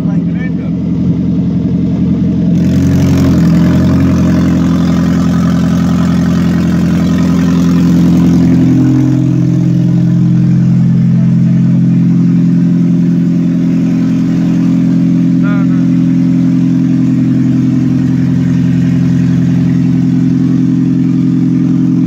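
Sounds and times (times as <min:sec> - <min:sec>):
loud raw exhaust drone: 0:00.0 - 0:22.0.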